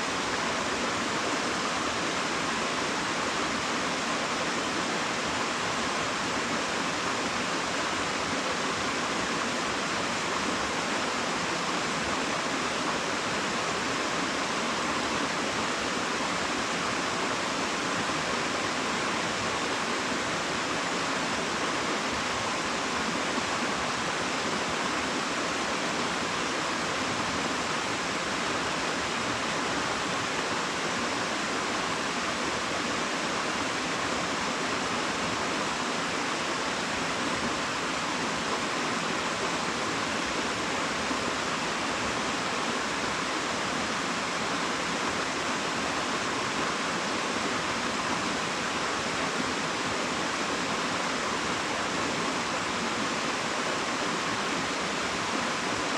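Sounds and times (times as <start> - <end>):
waterfall roaring: 0.0 - 55.9.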